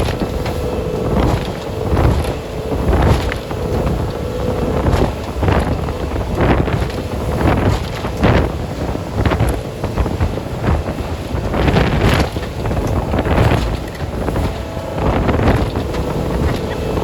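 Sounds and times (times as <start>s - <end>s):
motorboat engine: 0.0s - 17.0s
wind rushing over microphone: 0.0s - 17.0s.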